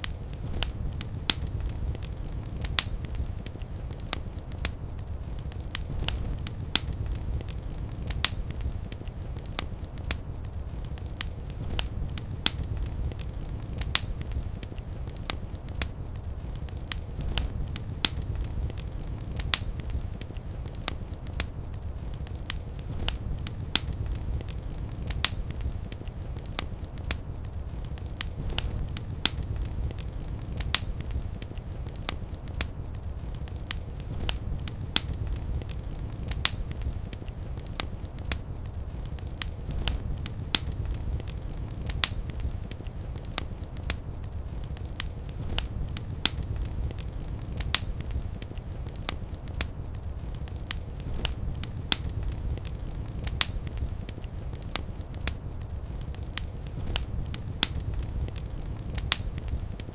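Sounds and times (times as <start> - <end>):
burning logs crackling and popping: 0.0 - 59.9
low rumble of flames: 0.0 - 59.9.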